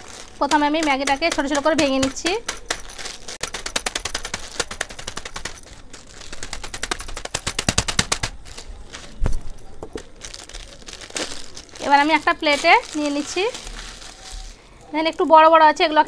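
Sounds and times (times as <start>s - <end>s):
dry noodles crunching in plastic: 0.0s - 15.3s.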